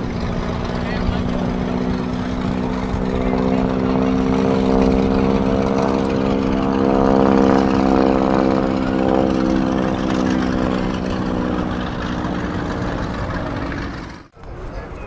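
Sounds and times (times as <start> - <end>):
engine drone: 0.0 - 14.9.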